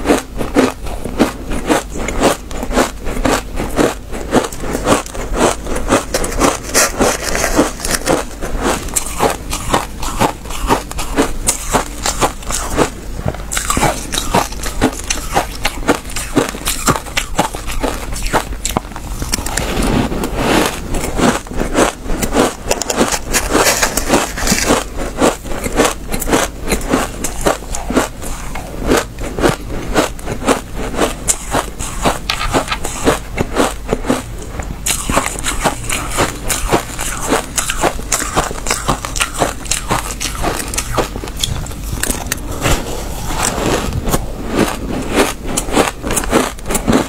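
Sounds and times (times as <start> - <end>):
chewing crunchy ice: 0.0 - 47.0.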